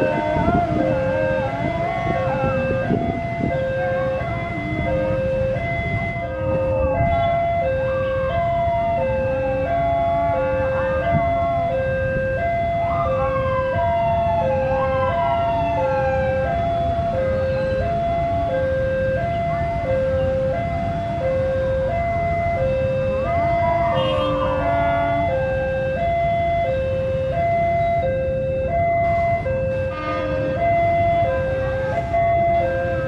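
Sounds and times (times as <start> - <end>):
level crossing two-tone alarm: 0.0 - 33.0.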